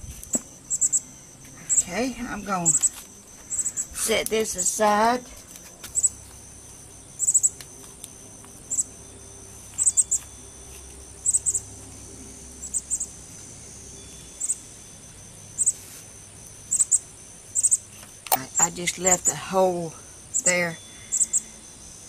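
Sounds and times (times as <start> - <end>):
insect chirping: 0.0 - 22.0
steady low hum: 0.0 - 22.0.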